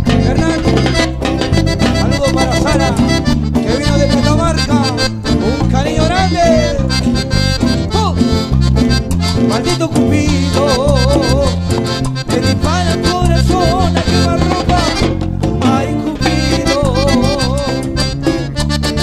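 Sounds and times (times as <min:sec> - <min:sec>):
bass: 0:00.0 - 0:19.0
percussion: 0:00.0 - 0:19.0
wavering melodic lead line: 0:00.0 - 0:19.0.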